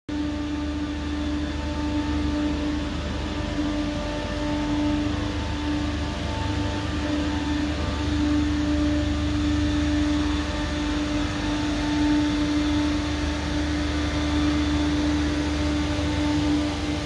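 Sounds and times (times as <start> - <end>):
machinery humming: 0.1 - 17.0.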